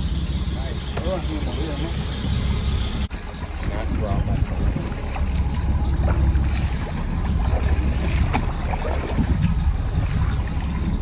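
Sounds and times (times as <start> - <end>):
water splashing against boat: 0.0 - 11.0
wind buffeting microphone: 0.0 - 11.0.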